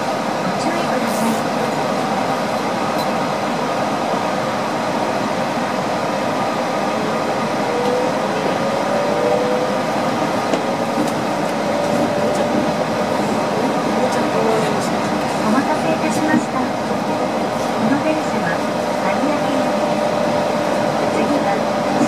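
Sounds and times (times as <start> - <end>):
train rumble and hiss: 0.0 - 22.0.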